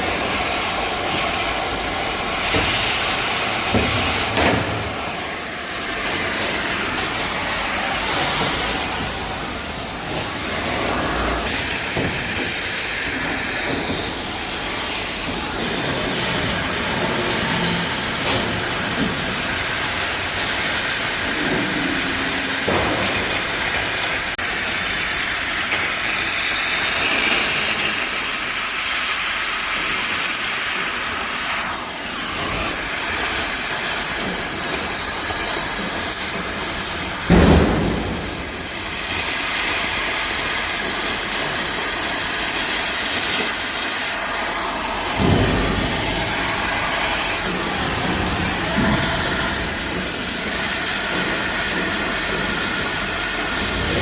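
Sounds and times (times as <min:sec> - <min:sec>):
loud steady hissing: 0:00.0 - 0:54.0.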